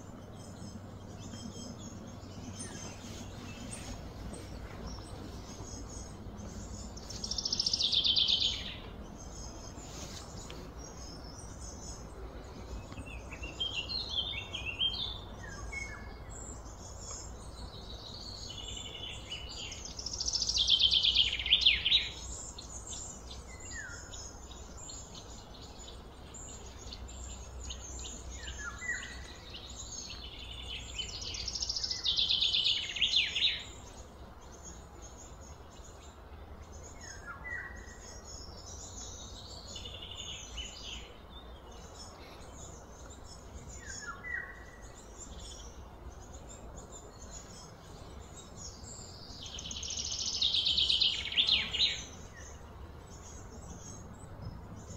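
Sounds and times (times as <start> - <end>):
bird chirps: 0.0 - 54.9
bird trilling song: 0.0 - 54.9
faint low hum: 0.0 - 54.9.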